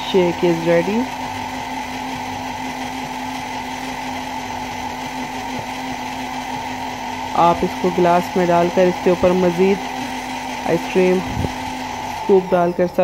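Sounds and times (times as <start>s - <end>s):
blender motor humming: 0.0s - 13.0s.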